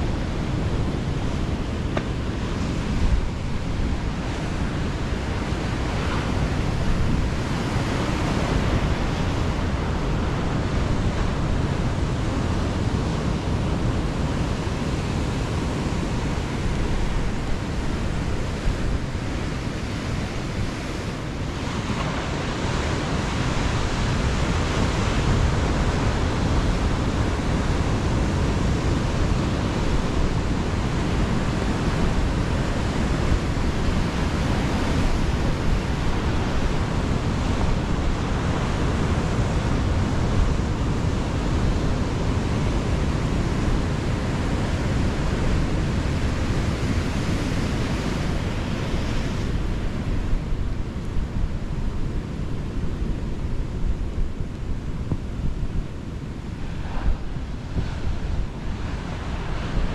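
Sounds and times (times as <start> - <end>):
ocean surf: 0.0 - 59.9
wind: 0.0 - 59.9.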